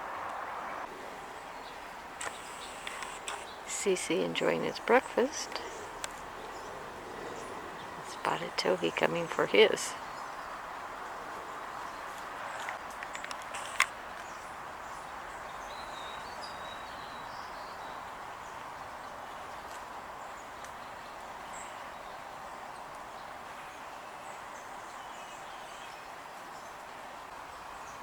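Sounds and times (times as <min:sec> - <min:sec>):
background hiss: 0:00.0 - 0:28.0
songbirds chirping: 0:00.0 - 0:28.0.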